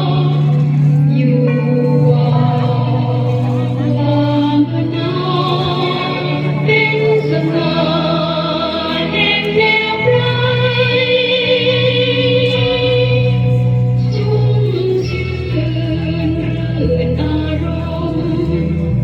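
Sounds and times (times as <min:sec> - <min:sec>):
musical accompaniment: 0:00.0 - 0:19.0.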